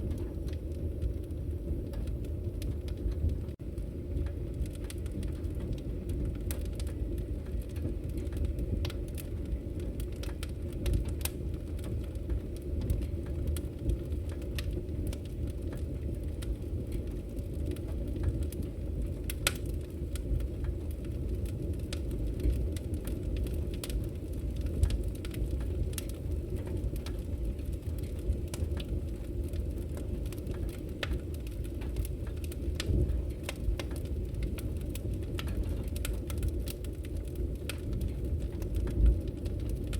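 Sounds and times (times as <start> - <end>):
fire rumbling: 0.0 - 39.9
wood crackling and popping: 0.0 - 39.9.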